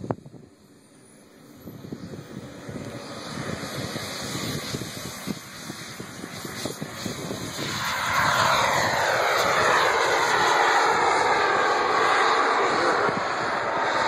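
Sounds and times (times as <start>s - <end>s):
model jet engine whine: 0.0s - 14.0s.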